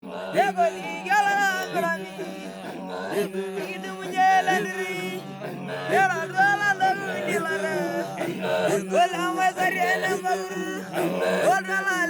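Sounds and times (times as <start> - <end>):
wordless chant-like vocal: 0.0 - 12.0.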